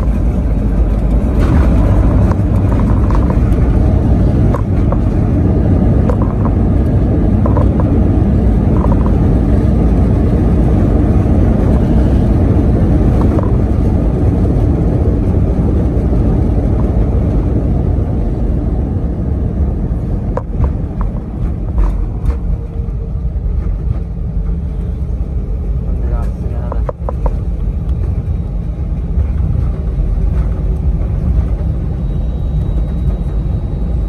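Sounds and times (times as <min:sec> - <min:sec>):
airliner cabin low rumble: 0:00.0 - 0:34.0.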